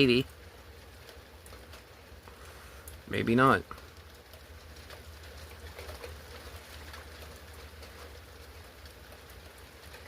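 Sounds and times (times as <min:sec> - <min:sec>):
rain drops ticking: 0:00.0 - 0:10.0.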